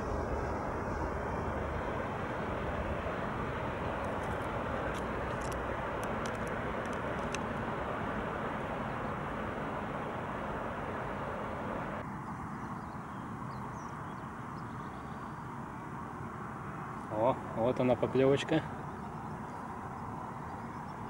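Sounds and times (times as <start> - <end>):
outdoor background rush: 0.0 - 21.0.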